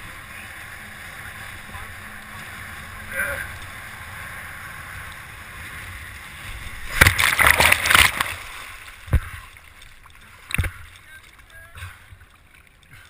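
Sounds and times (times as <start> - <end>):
splashing and churning water: 0.0 - 13.0
water rushing past boat: 0.0 - 13.0.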